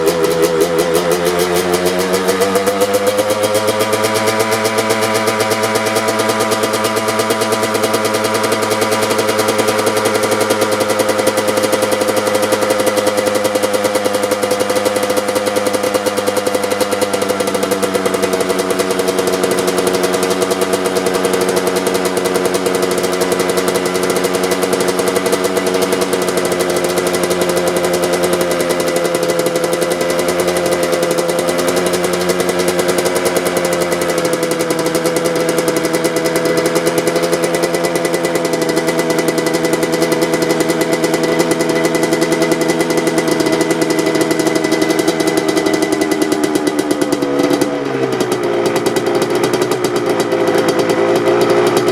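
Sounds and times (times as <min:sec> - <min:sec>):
two-stroke engine idling: 0:00.0 - 0:51.9.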